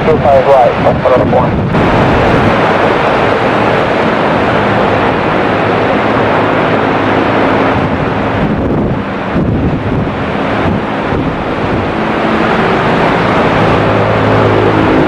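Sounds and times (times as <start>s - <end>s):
heavy rain: 0.0s - 15.0s
jet airliner engines drone: 0.0s - 15.0s
strong wind on microphone: 0.0s - 15.0s.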